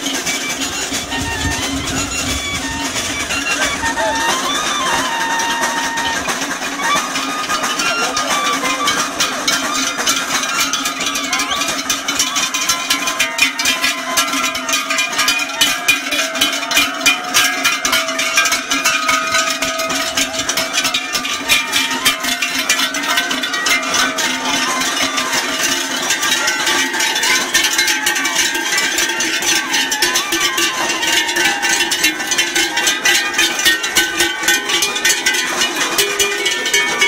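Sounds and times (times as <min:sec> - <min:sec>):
cowbells clanking: 0:00.0 - 0:37.0.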